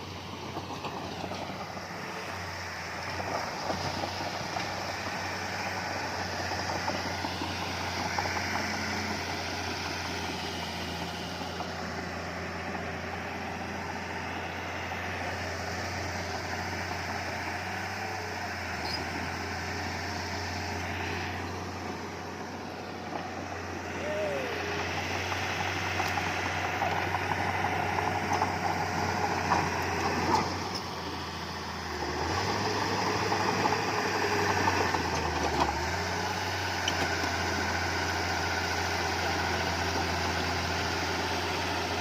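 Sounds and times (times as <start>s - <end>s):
heavy machinery diesel engine: 0.0s - 42.0s.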